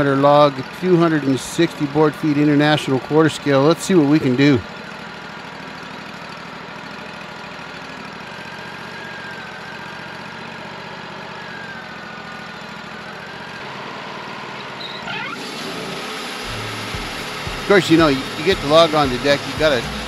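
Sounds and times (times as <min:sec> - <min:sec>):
sawmill engine idling: 0:00.0 - 0:20.0.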